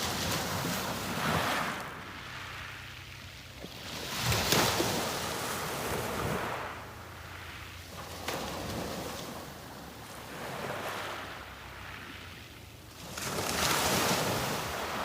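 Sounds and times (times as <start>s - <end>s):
sea waves breaking on beach: 0.0s - 12.3s, 12.9s - 15.0s.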